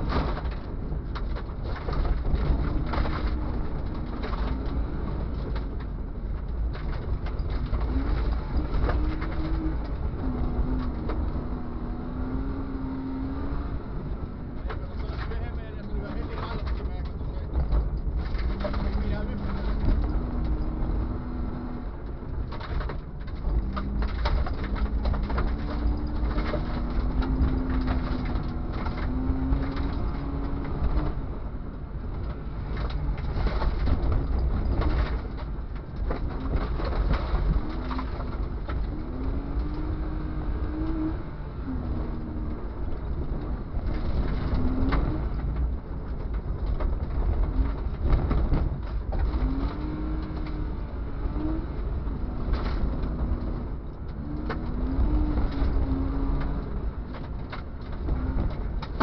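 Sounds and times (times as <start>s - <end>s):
car engine revving: 0.0s - 59.0s
knocks and rattles: 0.0s - 59.0s
tyres rumbling on gravel: 0.0s - 59.0s.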